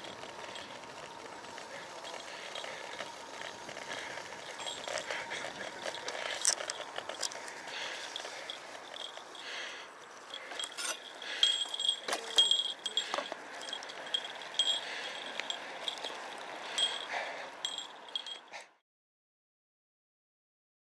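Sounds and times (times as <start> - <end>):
bicycle freewheel ticking: 0.0 - 18.7
road and wind noise: 0.0 - 18.7.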